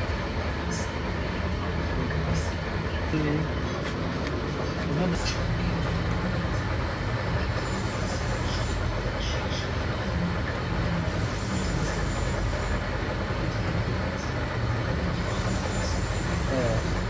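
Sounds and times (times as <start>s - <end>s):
faint high machine whine: 0.0s - 17.0s
low mechanical rumble: 0.0s - 17.0s.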